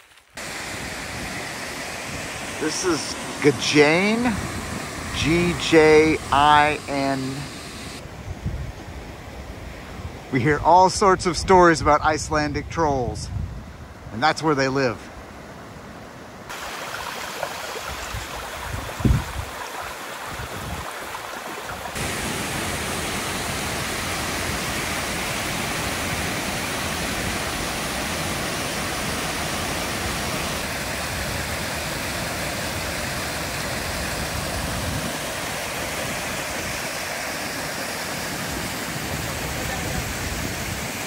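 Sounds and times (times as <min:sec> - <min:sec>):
rushing water of waterfalls: 0:00.0 - 0:08.2, 0:15.6 - 0:41.0.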